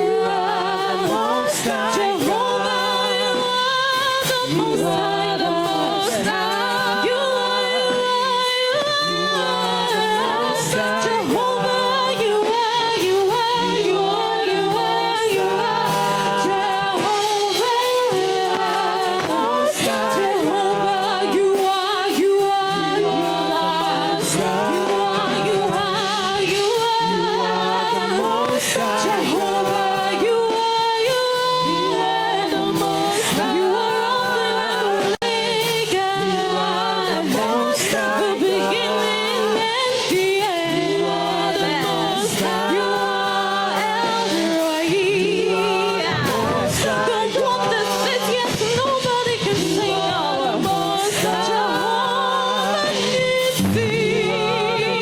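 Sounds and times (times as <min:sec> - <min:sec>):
steady held accompaniment: 0:00.0 - 0:55.0
voices singing worship song: 0:00.0 - 0:55.0.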